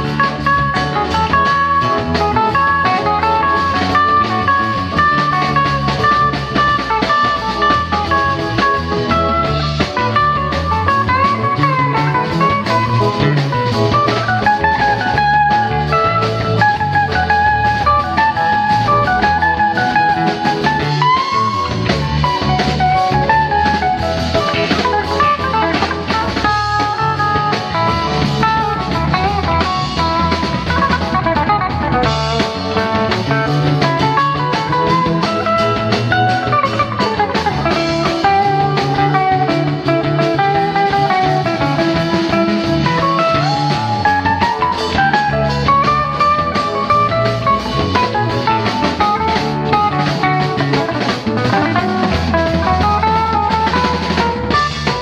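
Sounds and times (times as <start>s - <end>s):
bass guitar: 0.0s - 55.0s
drum kit: 0.0s - 55.0s
electric guitar soloing: 0.0s - 55.0s
keyboards: 0.0s - 55.0s.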